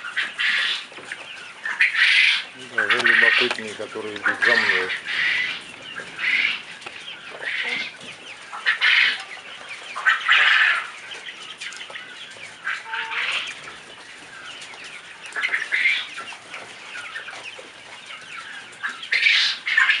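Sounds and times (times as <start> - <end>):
young chickens calling: 0.0 - 20.0.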